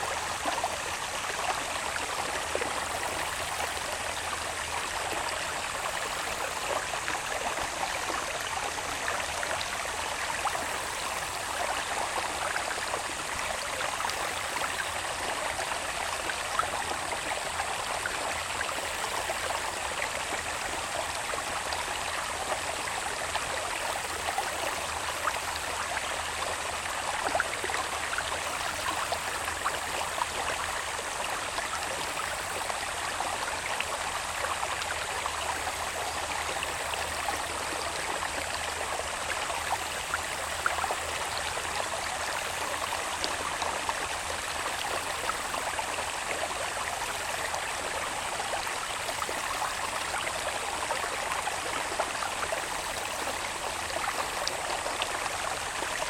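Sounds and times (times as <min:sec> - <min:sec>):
water babbling in a channel: 0:00.0 - 0:56.0.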